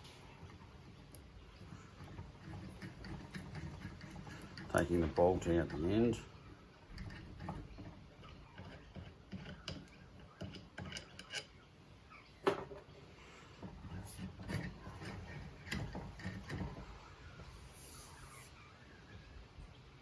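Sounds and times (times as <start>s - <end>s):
metal parts clicking and scraping: 0.0s - 18.4s.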